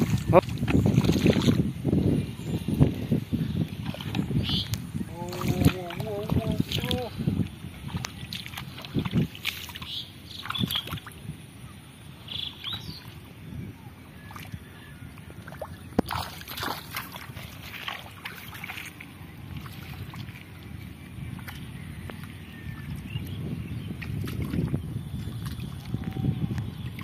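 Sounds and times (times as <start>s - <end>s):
hands sloshing in muddy water: 0.0s - 1.7s, 3.6s - 11.2s, 14.1s - 27.0s.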